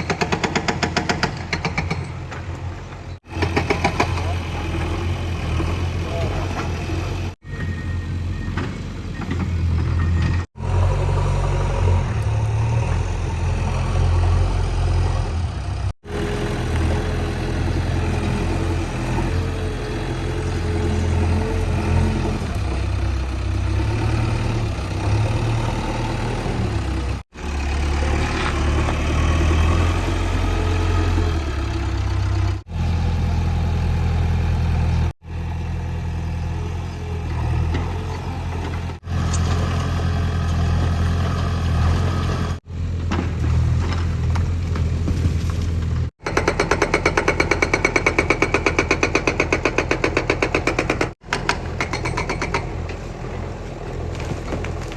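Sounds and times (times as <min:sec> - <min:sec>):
diesel engine running under load: 0:02.5 - 0:54.9.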